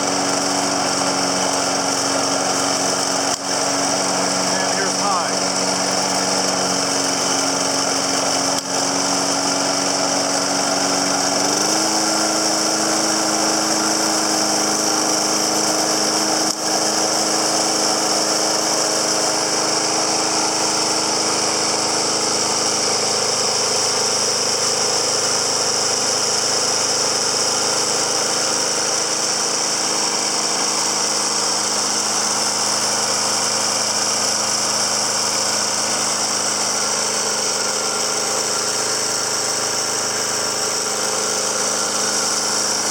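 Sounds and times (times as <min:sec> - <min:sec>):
lawn mower engine running: 0:00.0 - 0:42.9.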